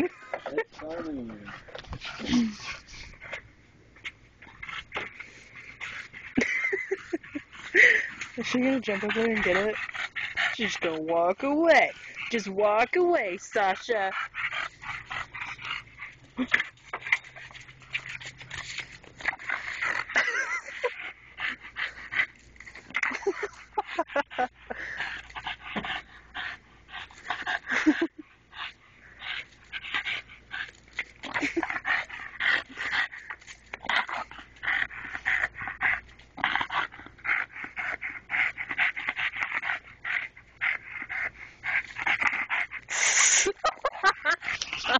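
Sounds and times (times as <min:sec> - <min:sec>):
dog panting: 0:00.0 - 0:03.5, 0:04.4 - 0:44.9.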